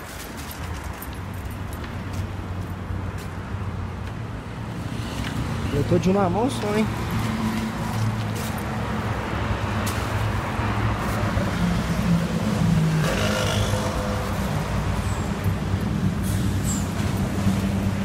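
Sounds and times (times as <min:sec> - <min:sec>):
road traffic drone: 0:00.0 - 0:18.0.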